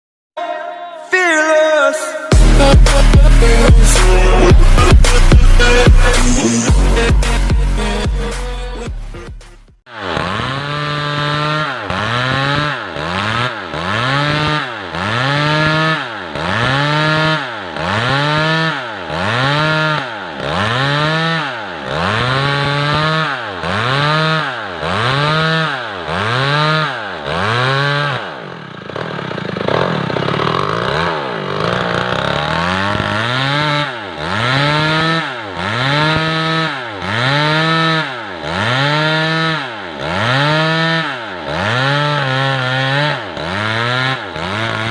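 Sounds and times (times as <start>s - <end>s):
chainsaw cutting through log: 1.2s - 44.9s.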